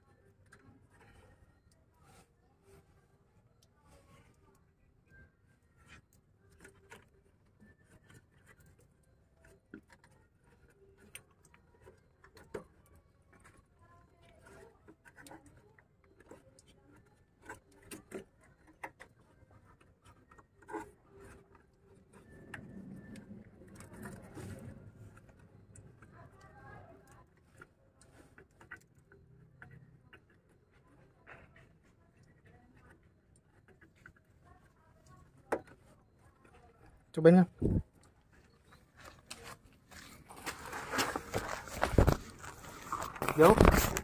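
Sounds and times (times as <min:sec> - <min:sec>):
faint clicks and rubbing: 0:00.0 - 0:44.0.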